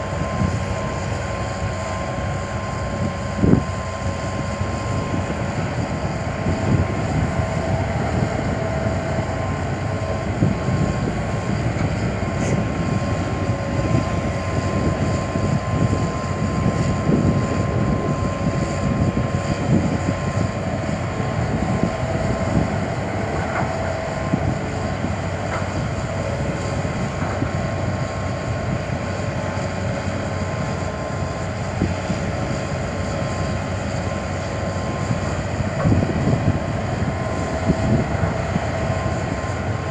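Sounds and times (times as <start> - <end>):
engine whine: 0.0 - 39.9
excavator diesel engine running: 0.0 - 39.9.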